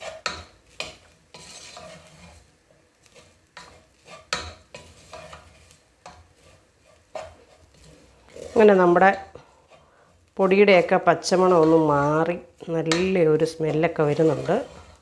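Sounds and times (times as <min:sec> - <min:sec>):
sizzling in oil: 0:00.0 - 0:15.0
wooden spatula scraping metal pot: 0:00.0 - 0:15.0.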